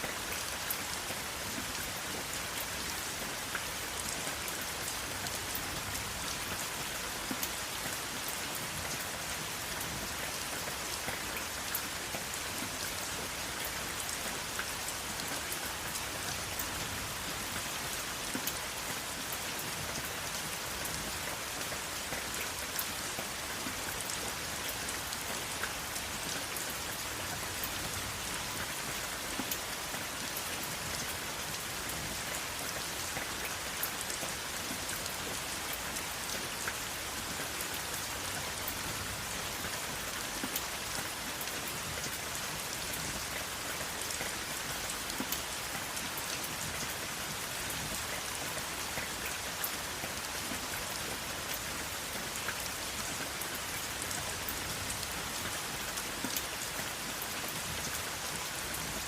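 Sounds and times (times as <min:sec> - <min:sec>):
raindrops ticking on a surface: 0:00.0 - 0:59.0
steady rain falling: 0:00.0 - 0:59.0.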